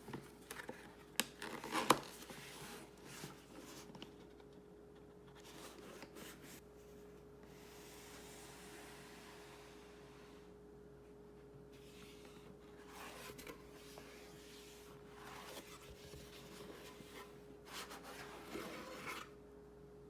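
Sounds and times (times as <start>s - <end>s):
faint rustling and scraping: 0.0s - 10.6s, 11.4s - 19.4s.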